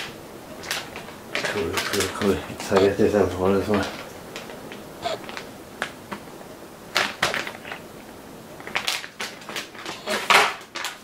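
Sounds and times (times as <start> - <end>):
plastic bags crinkling: 0.0 - 6.3, 6.9 - 11.0.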